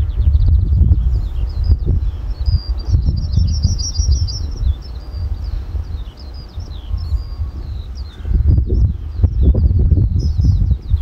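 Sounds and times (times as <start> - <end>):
small birds singing: 0.0 - 11.0
wind buffeting microphone: 0.0 - 11.0.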